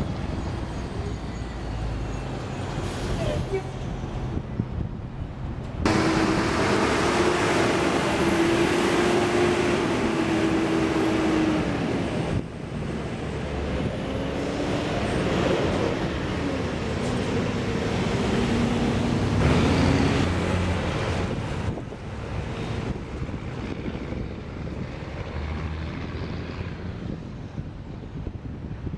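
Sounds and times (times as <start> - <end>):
heavy vehicle engine hum: 0.0 - 28.9
traffic noise: 0.0 - 28.9.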